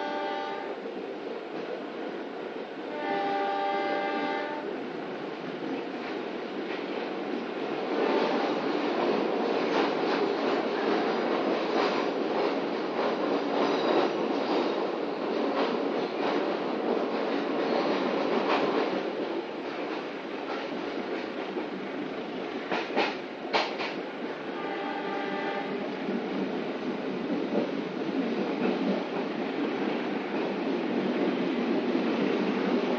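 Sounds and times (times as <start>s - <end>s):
train rumble inside carriage: 0.0s - 32.9s.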